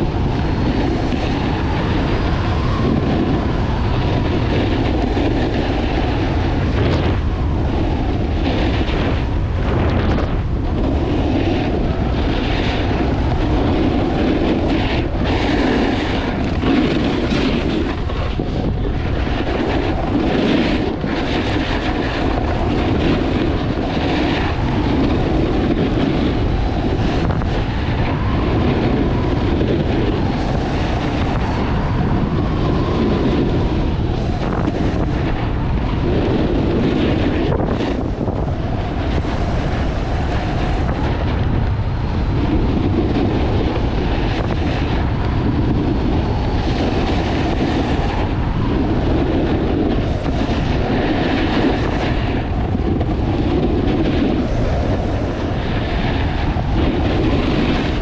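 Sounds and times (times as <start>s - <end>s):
skis carving on snow: 0.0s - 58.0s
wind buffeting microphone: 0.0s - 58.0s.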